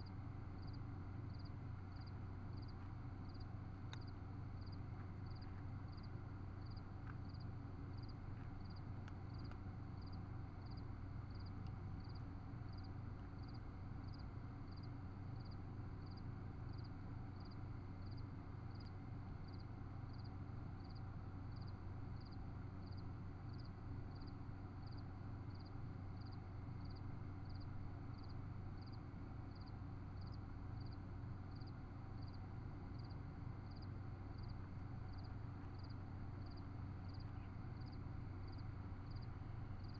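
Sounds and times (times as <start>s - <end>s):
cricket chirping: 0.0s - 39.9s
faint low hum: 0.0s - 39.9s.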